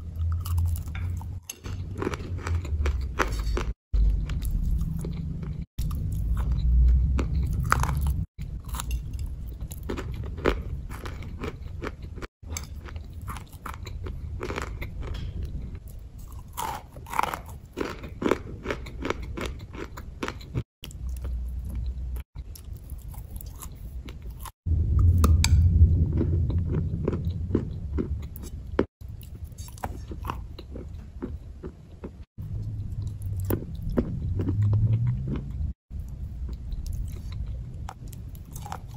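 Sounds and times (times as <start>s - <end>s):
crunchy chewing: 0.0s - 24.6s, 26.2s - 38.9s.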